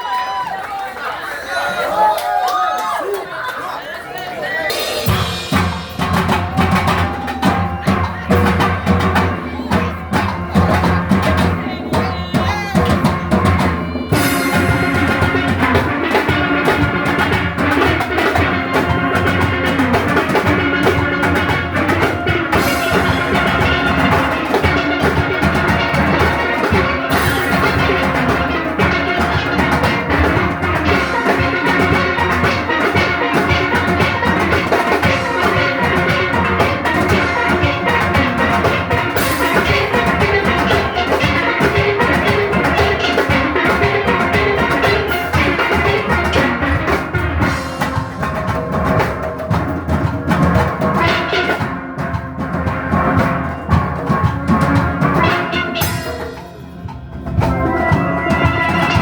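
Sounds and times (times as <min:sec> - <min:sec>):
drum kit and percussion beat: 0:04.1 - 0:59.0
steelpans playing: 0:04.7 - 0:48.8, 0:51.0 - 0:59.0.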